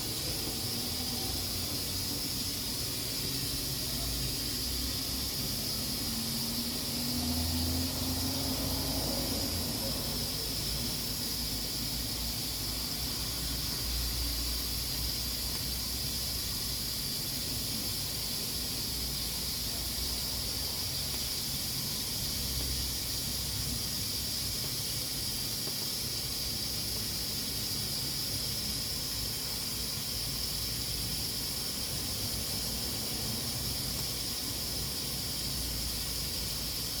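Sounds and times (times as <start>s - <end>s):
pressure cooker steam hissing: 0.0s - 37.0s.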